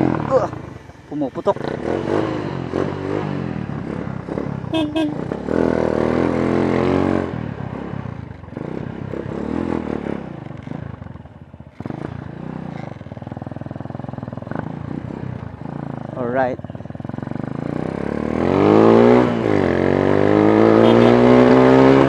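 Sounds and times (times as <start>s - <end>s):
motorcycle engine revving: 0.0s - 22.0s
rushing road noise: 0.0s - 22.0s.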